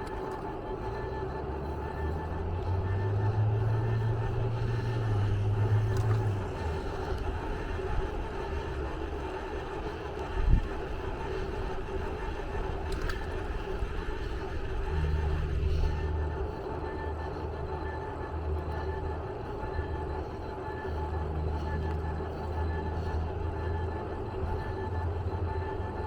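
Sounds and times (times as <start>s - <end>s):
low drone: 0.0s - 26.0s
vehicle running noise: 0.0s - 26.0s.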